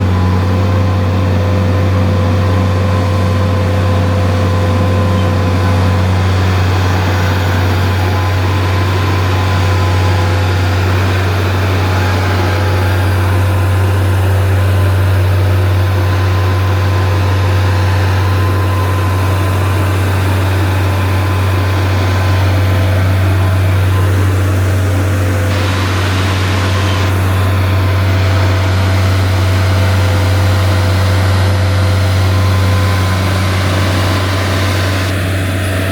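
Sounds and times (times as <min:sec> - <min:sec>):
stump grinder engine running: 0:00.0 - 0:35.9.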